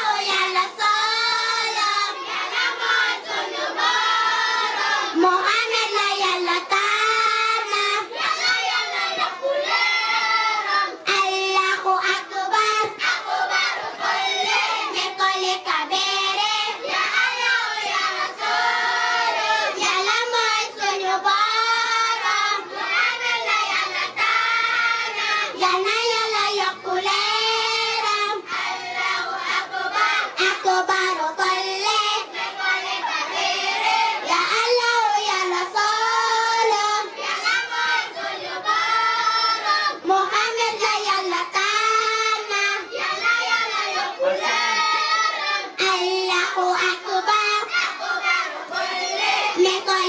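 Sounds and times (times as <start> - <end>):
child singing a melodic chant: 0.0 - 50.0.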